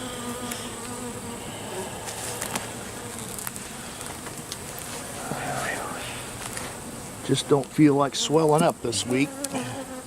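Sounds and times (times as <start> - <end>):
honey bees buzzing: 0.0 - 10.0.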